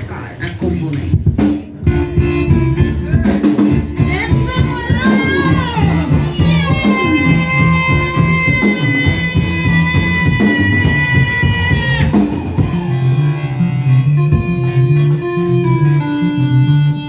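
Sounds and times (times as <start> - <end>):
live dance band: 0.0 - 17.0
held high note: 1.9 - 17.0.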